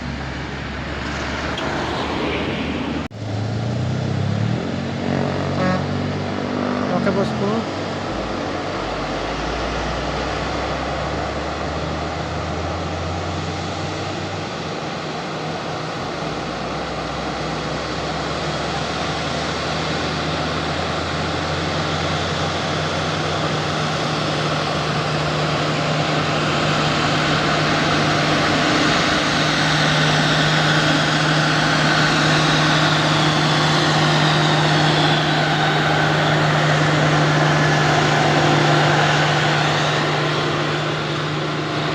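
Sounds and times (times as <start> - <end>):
heavy truck engine under load: 0.0 - 41.9.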